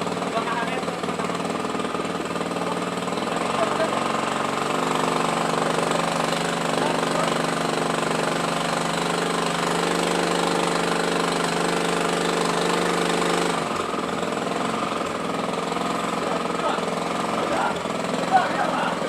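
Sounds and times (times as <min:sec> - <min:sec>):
tamping rammer engine running: 0:00.0 - 0:19.0.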